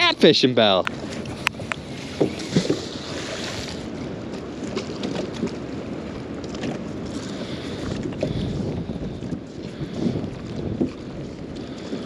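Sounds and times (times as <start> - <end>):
water lapping against boat: 0.0 - 12.0
wind buffeting microphone: 0.0 - 12.0.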